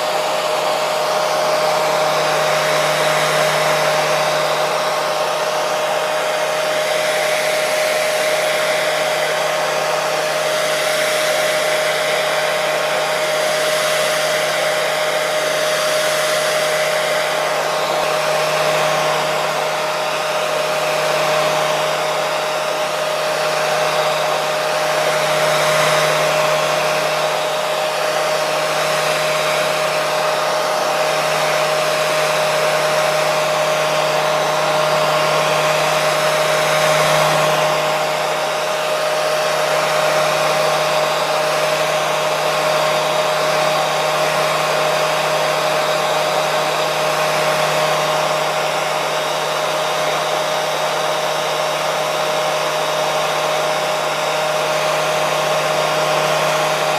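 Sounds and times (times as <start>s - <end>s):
hair dryer running: 0.0s - 56.9s.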